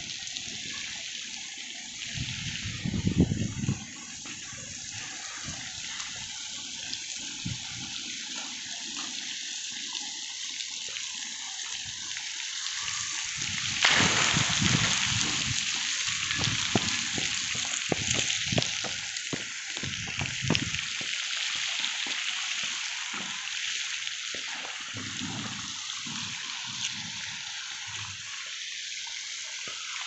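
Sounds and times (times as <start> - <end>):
water jets splashing: 0.0 - 30.0.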